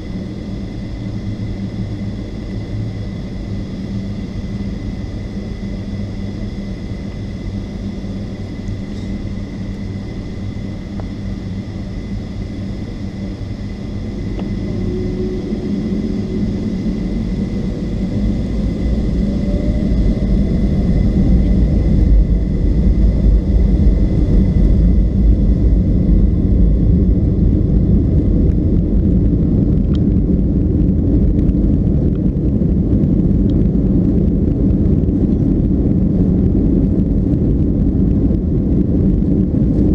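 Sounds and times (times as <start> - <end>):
jet engine whine: 0.0 - 39.9
low rumble: 0.0 - 39.9.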